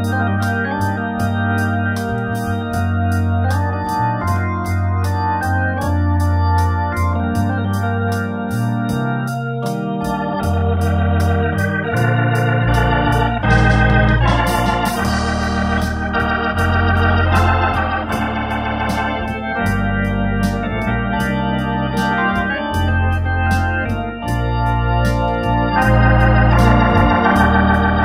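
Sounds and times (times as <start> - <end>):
organ playing pop ballad: 0.0 - 28.0
ticking beat: 0.0 - 28.0.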